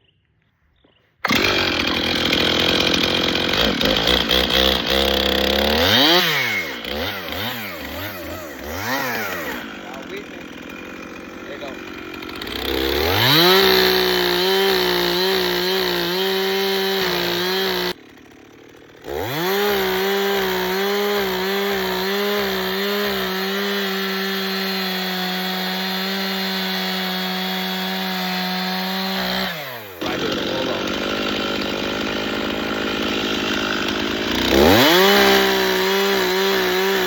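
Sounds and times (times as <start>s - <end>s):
chainsaw revving: 1.2s - 37.0s.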